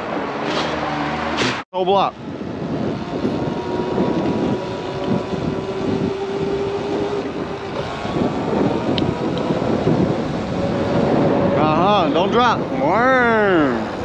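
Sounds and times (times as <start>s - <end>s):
wind buffeting microphone: 1.2s - 14.0s
electric motor whining: 2.2s - 14.0s.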